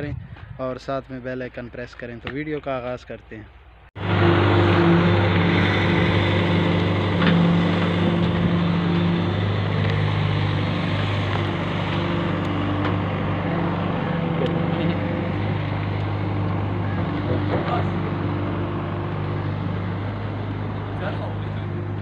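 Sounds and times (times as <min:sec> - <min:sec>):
excavator diesel engine running: 0:04.0 - 0:22.0.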